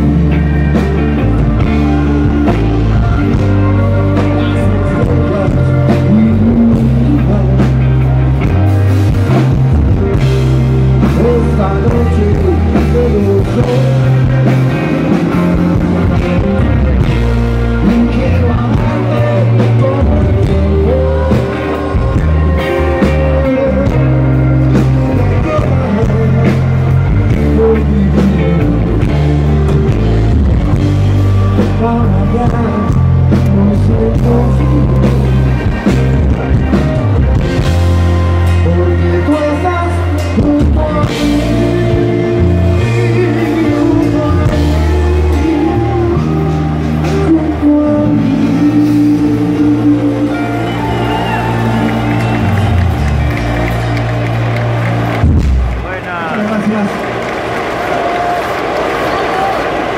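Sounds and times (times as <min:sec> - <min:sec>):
person singing: 0:00.0 - 0:53.4
drums: 0:00.0 - 0:59.9
electric guitars: 0:00.0 - 0:59.9
heavy bass notes: 0:00.0 - 0:59.9.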